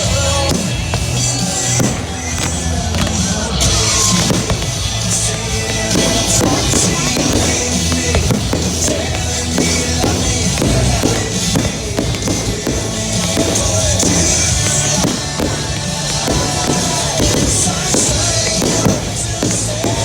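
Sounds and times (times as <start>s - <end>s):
fireworks bangs and crackles: 0.0s - 20.0s
loud music: 0.0s - 20.0s.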